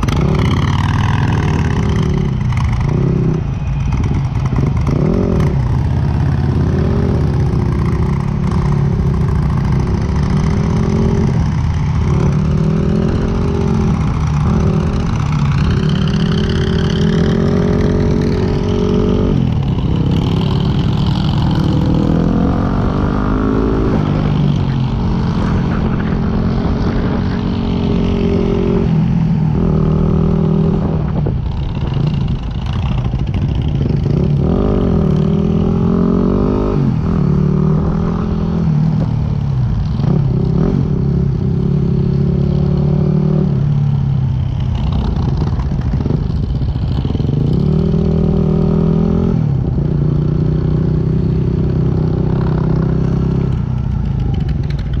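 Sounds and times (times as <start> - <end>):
motorcycle engine revving: 0.0 - 55.0
wind rumble on microphone: 0.0 - 55.0.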